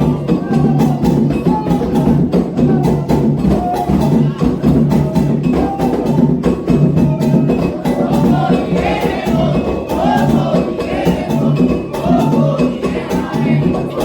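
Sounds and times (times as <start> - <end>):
call-and-response singing: 0.0 - 14.0
hand drums playing fast rhythm: 0.0 - 14.0.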